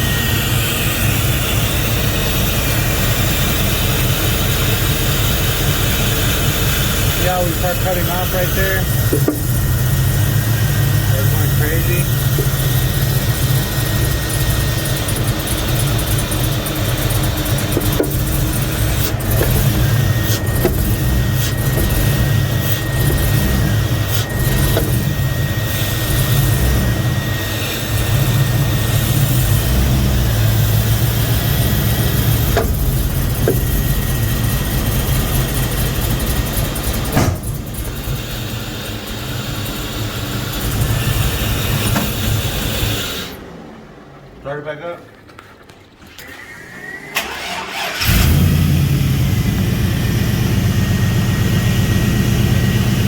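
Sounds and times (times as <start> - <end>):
engine running with misfire: 0.0 - 44.1, 46.8 - 53.0.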